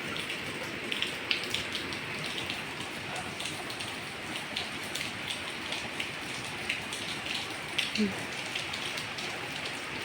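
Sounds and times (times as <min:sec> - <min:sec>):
raindrops ticking on a surface: 0:00.0 - 0:10.0
steady rain falling: 0:00.0 - 0:10.0.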